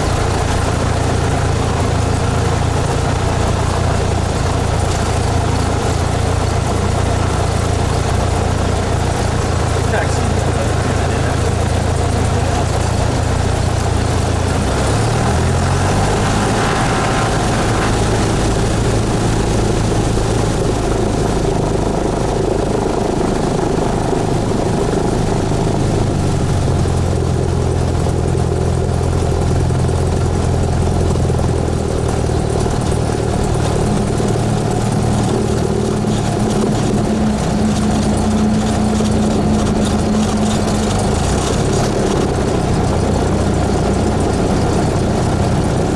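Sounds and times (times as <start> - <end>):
light aircraft engine and propeller: 0.0 - 45.9.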